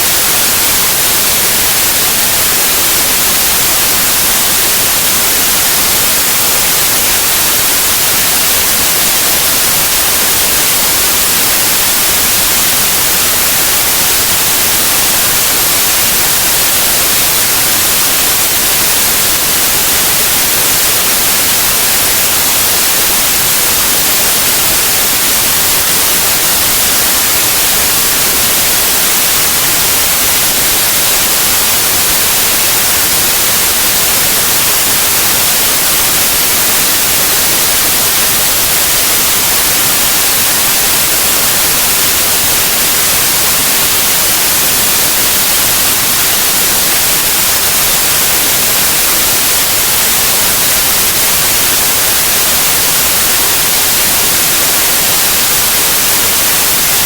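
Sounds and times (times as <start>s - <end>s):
loud white noise hiss: 0.0s - 57.0s.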